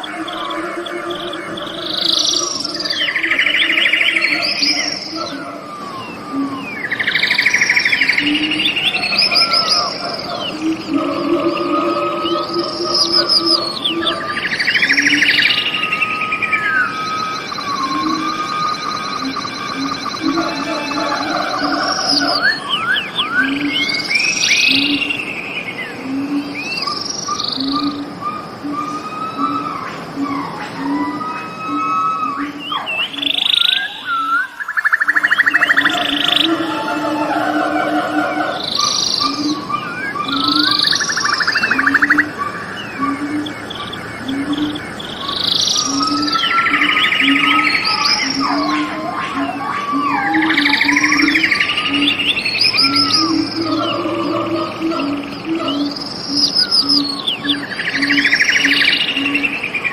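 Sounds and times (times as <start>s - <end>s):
birds calling and singing: 0.0s - 59.9s.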